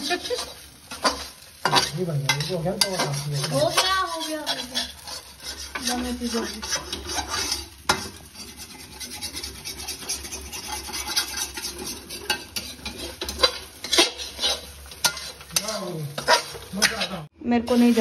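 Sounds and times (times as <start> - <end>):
frying sizzle: 0.0 - 18.0
metal spatula scraping pan: 0.0 - 18.0
metal clack on pan: 0.3 - 4.9, 5.6 - 17.1.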